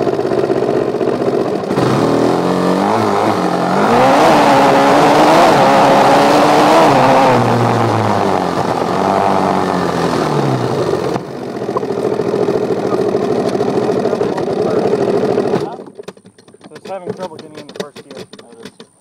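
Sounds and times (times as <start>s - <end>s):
dirt bike engine slowing and idling: 0.0s - 19.0s.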